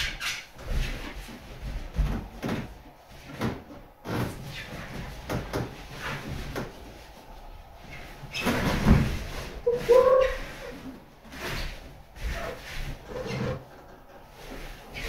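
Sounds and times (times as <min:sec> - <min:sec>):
balloons rubbing together: 0:00.0 - 0:15.0.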